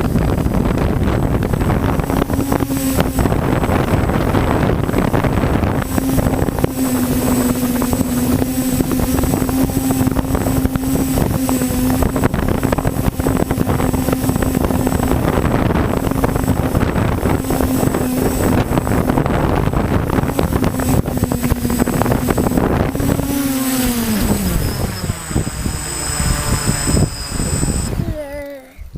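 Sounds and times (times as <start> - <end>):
drone motors humming: 0.0 - 28.9
wind buffeting microphone: 0.0 - 28.9.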